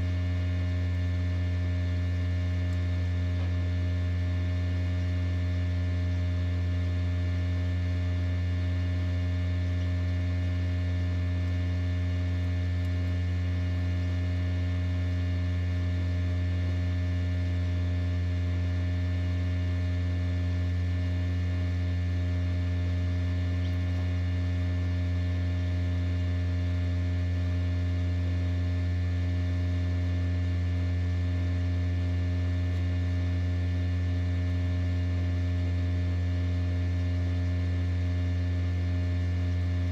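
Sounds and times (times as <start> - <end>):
incubator humming: 0.0 - 39.9.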